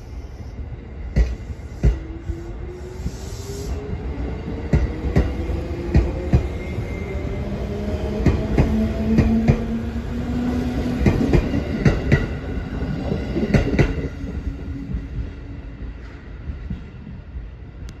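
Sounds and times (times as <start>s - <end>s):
steady train hum: 0.0s - 18.0s.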